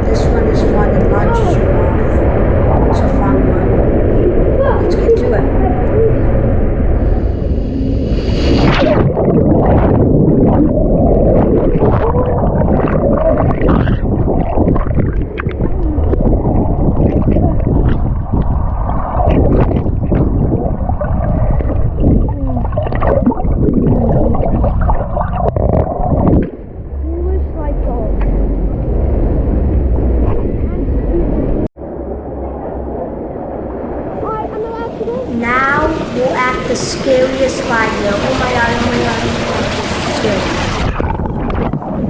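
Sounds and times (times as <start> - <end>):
water rushing and gurgling: 0.0 - 42.0.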